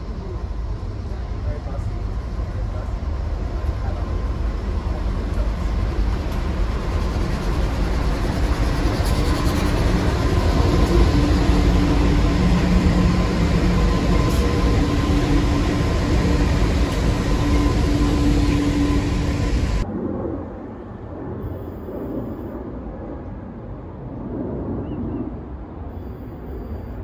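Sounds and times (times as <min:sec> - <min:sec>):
diesel locomotives passing: 0:00.0 - 0:22.8.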